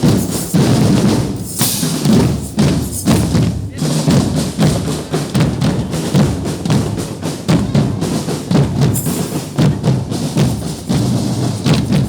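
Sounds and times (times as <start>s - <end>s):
bass and snare drums beating: 0.0s - 12.0s.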